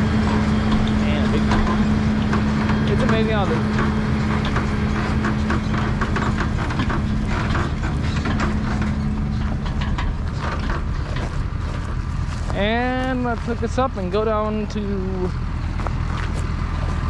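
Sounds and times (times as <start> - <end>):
steady hum: 0.0 - 17.0
tractor engine running: 0.0 - 17.0.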